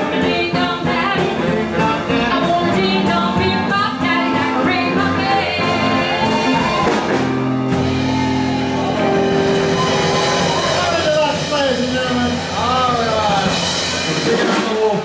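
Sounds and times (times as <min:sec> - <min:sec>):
live blues band playing: 0:00.0 - 0:15.0.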